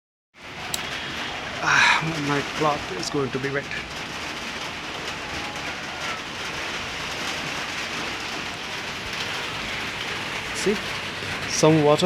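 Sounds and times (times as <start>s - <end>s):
steady rain falling: 0.4s - 12.0s.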